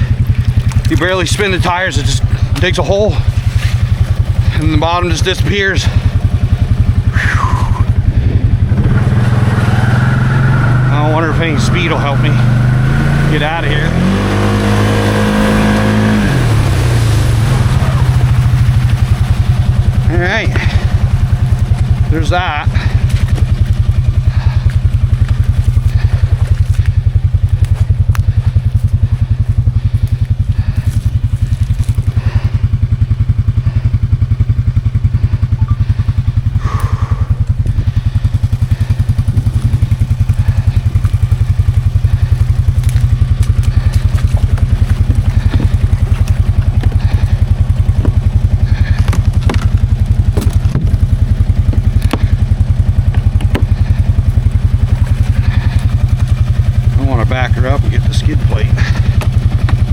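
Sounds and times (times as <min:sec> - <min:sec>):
atv engine running steadily: 0:00.0 - 0:59.9.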